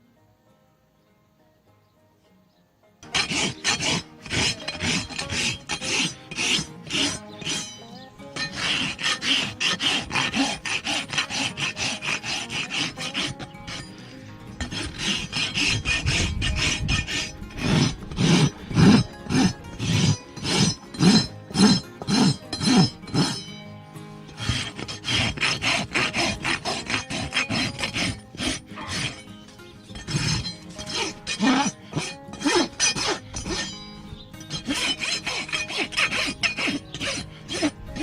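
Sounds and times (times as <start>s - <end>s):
hoof rasp filing: 3.0s - 38.0s.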